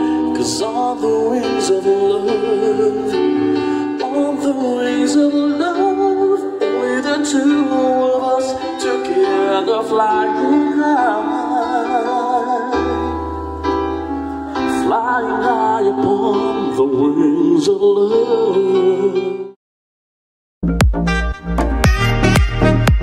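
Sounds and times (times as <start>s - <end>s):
electronic keyboard chords: 0.0s - 19.6s, 20.6s - 23.0s
person singing love song: 0.0s - 19.6s.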